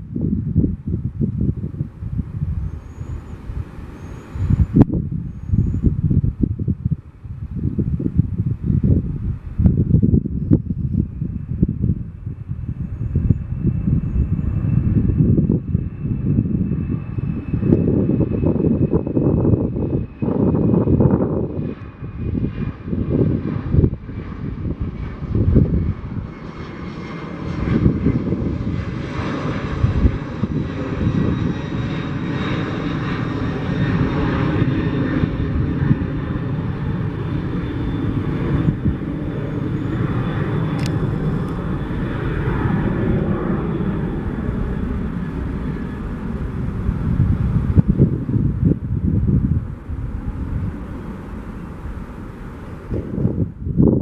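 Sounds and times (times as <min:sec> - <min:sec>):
jet engines rushing: 0:00.0 - 0:54.0
wind buffeting microphone: 0:00.0 - 0:54.0.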